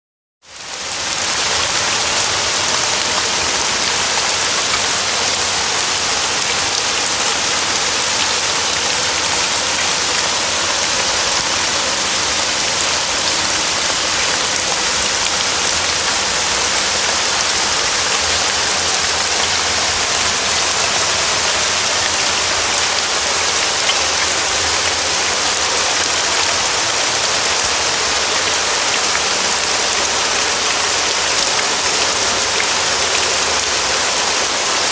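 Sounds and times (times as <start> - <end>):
rain falling on leaves: 0.5 - 34.9.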